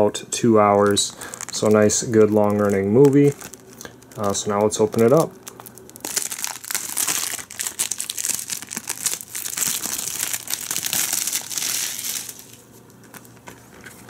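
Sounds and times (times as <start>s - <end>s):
plastic wrap crinkling: 0.7s - 14.0s.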